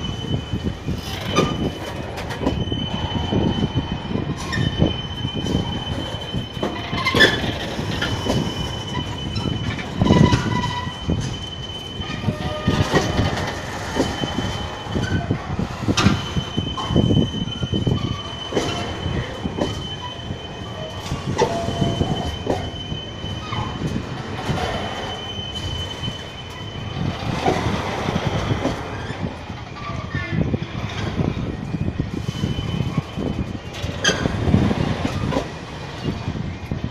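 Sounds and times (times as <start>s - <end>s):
train wheels squealing: 0.0s - 36.9s.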